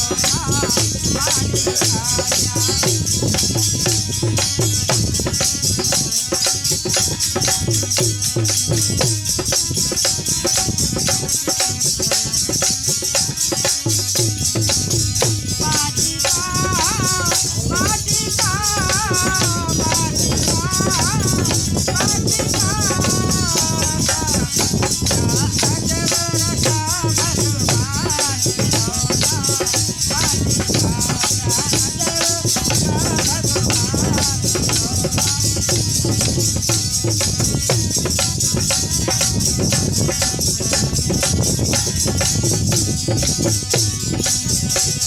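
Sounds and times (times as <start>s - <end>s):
drum beat: 0.0s - 45.0s
jingling hand percussion: 0.0s - 45.0s
wavering devotional melody: 0.0s - 45.0s.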